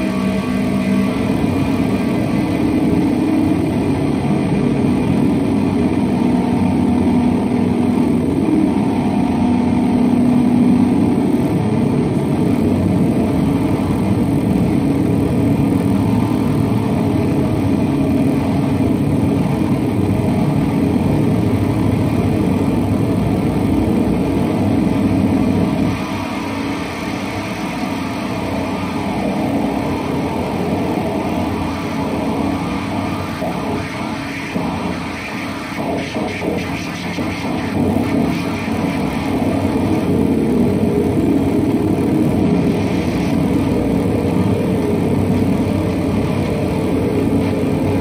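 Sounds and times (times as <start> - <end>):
distorted electric guitar drone: 0.0 - 48.0.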